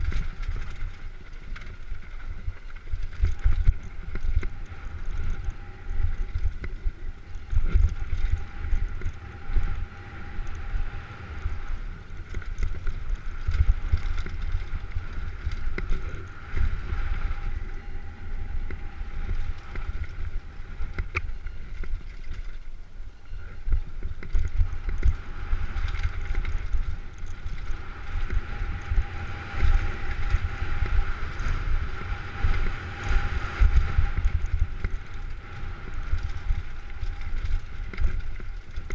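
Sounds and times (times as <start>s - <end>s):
bike rattling over rough trail: 0.0s - 38.9s
faint wavering whine: 0.0s - 38.9s
wind buffeting microphone: 0.0s - 38.9s.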